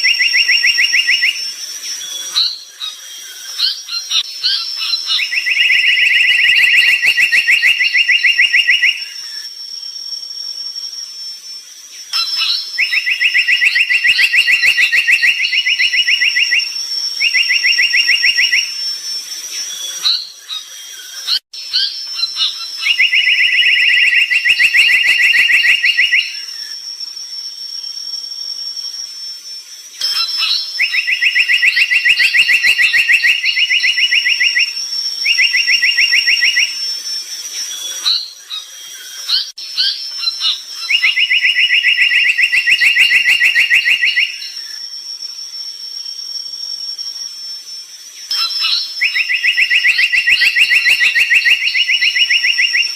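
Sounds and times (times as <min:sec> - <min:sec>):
bird singing fast trill: 0:00.0 - 0:29.2, 0:29.9 - 0:47.4, 0:48.0 - 0:52.9
steady high-pitched whine: 0:00.0 - 0:52.9.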